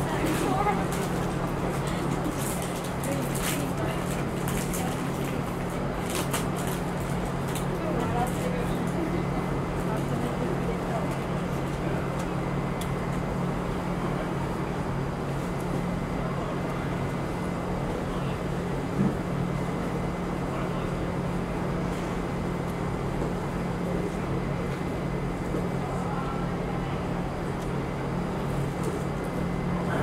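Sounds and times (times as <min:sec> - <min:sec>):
constant low hum: 0:00.0 - 0:30.0.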